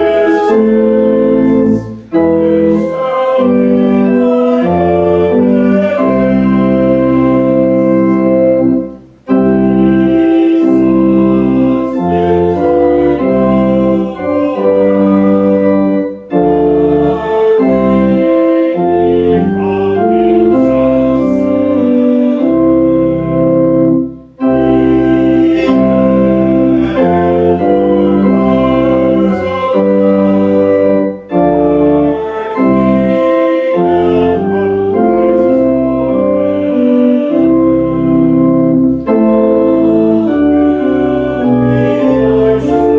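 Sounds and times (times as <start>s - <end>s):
organ playing sustained chords: 0.0s - 42.9s.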